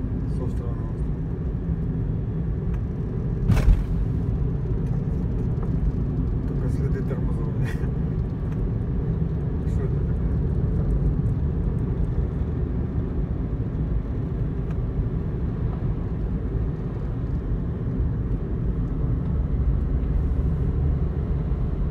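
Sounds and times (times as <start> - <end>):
car interior road rumble: 0.0 - 21.9.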